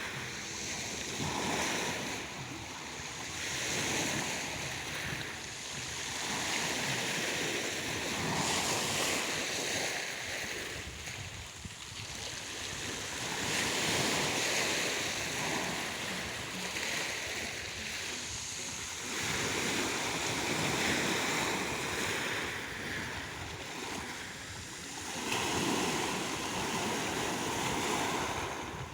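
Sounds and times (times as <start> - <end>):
waves washing onto shore: 0.0 - 28.9.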